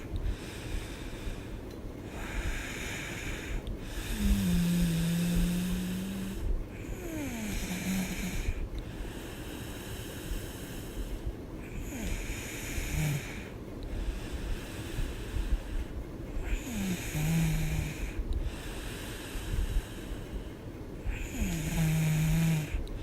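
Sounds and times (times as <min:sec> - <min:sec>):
woman snoring: 0:02.1 - 0:11.0, 0:11.6 - 0:20.2, 0:21.0 - 0:23.0.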